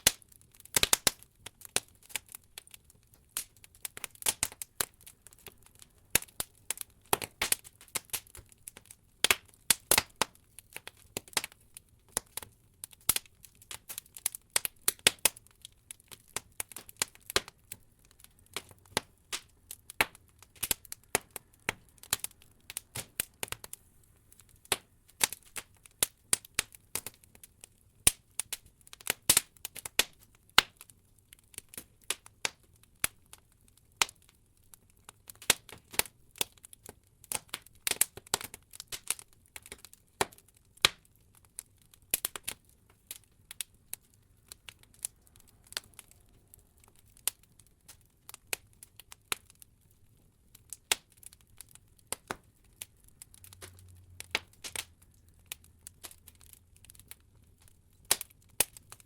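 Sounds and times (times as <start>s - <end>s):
logs crackling and popping: 0.0s - 59.0s.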